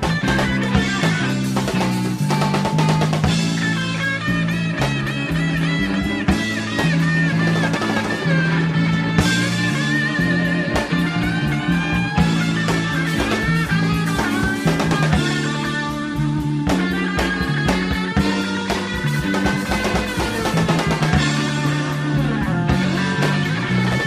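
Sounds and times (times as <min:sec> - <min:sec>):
bass line: 0:00.0 - 0:24.0
drum kit: 0:00.0 - 0:24.0
electric guitar lead: 0:00.0 - 0:24.0.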